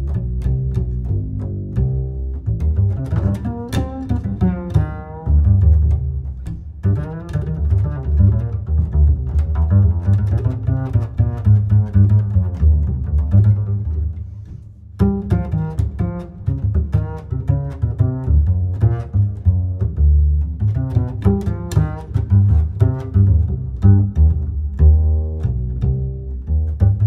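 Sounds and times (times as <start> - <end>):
double bass and cello music: 0.0 - 27.0.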